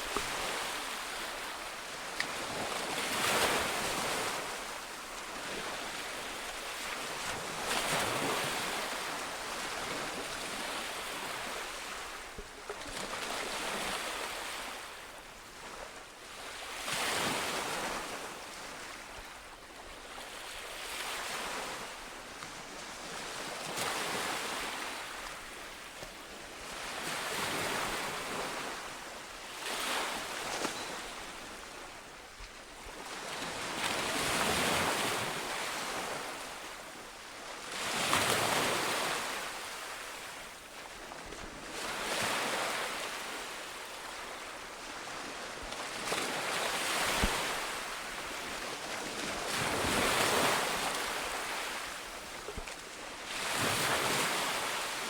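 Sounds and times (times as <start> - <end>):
ocean waves breaking on beach: 0.0 - 19.4, 20.1 - 55.0.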